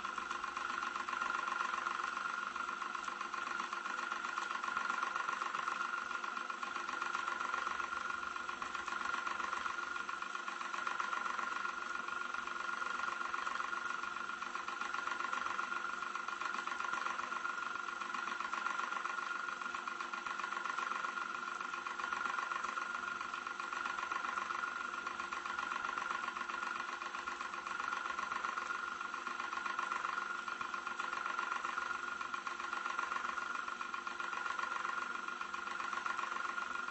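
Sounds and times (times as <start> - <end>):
electric fan whirring: 0.0 - 36.9.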